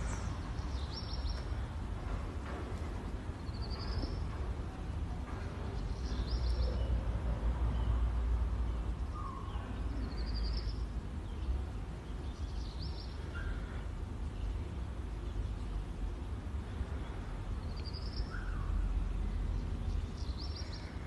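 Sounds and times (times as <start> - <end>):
low street rumble: 0.0 - 21.0.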